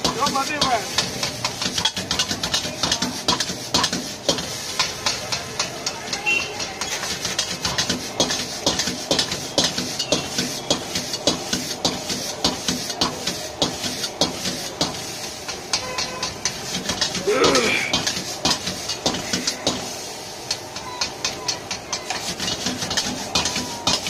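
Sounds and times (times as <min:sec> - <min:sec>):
hiss of frying: 0:00.0 - 0:24.0
spatula scraping a wok: 0:00.0 - 0:24.0.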